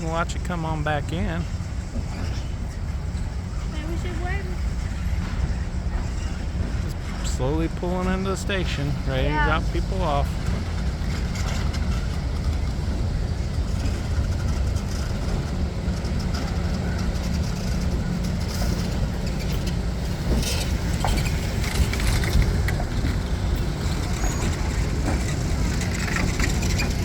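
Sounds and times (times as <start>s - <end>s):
diesel locomotive rumbling: 0.0s - 27.0s.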